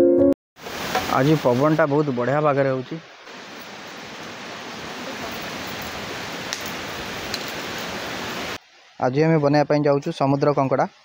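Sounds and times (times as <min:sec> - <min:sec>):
wind rustling leaves: 0:00.6 - 0:11.0.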